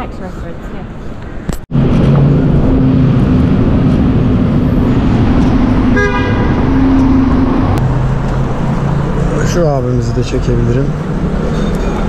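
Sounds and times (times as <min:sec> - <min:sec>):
city street traffic: 0:00.0 - 0:12.0
vehicle engine running close by: 0:01.7 - 0:12.0.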